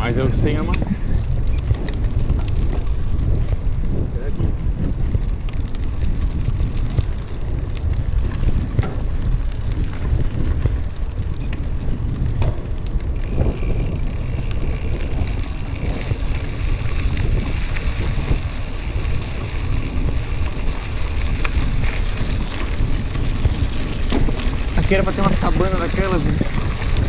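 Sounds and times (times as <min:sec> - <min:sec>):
bicycle clicks and rattles: 0:00.0 - 0:27.0
wind buffeting microphone: 0:00.0 - 0:27.0.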